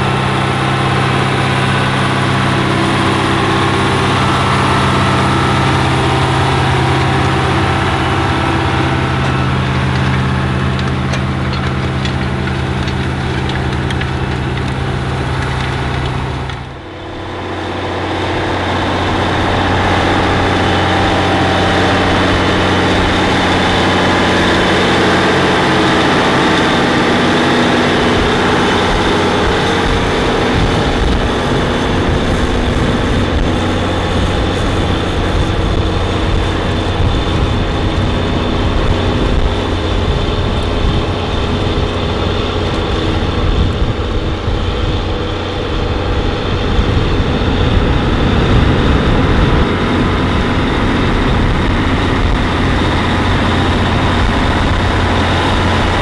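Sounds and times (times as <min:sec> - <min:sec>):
diesel engine droning: 0:00.0 - 0:56.0
high engine whine: 0:00.0 - 0:56.0.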